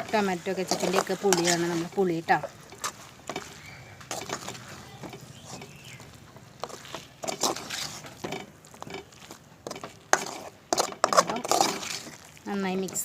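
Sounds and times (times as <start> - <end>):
spoon scraping a pan: 0.0 - 13.0.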